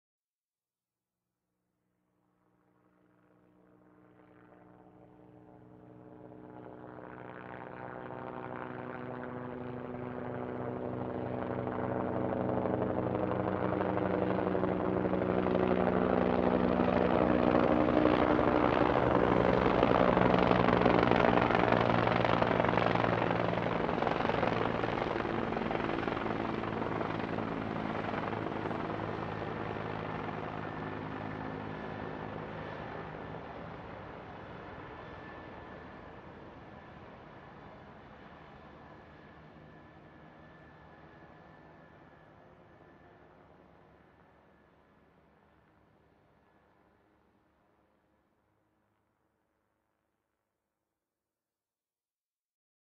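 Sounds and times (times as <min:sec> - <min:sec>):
helicopter flying past: 0:02.2 - 0:48.0.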